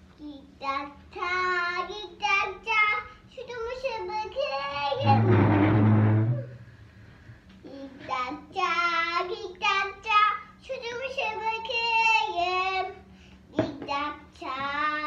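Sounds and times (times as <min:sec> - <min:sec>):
child singing: 0:00.2 - 0:05.6, 0:07.8 - 0:15.0.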